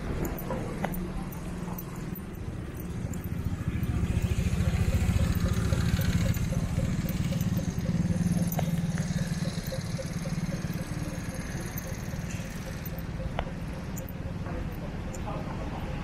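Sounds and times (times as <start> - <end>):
small vehicle engine running: 0.0 - 14.3.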